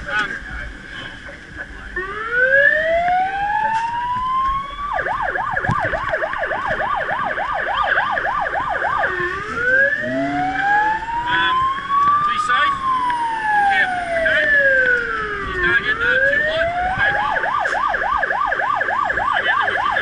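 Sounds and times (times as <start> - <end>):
fire truck siren wailing and yelping: 1.9 - 20.0.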